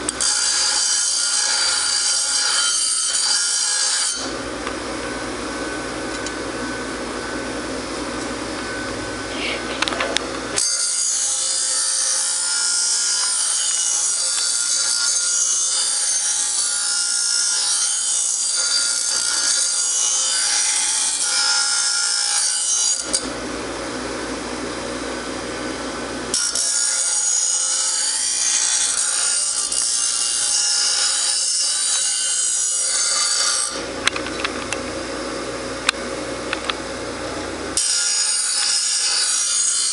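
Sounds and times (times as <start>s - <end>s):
bench grinder humming: 0.0s - 39.9s.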